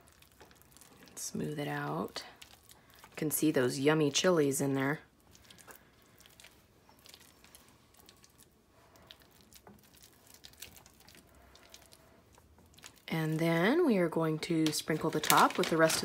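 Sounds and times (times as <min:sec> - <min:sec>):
spatula spreading creamy filling: 0:00.0 - 0:14.1.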